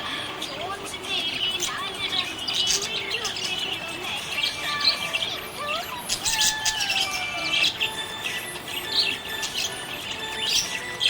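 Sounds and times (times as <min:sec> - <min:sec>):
budgerigar chirping and warbling: 0:00.0 - 0:11.0.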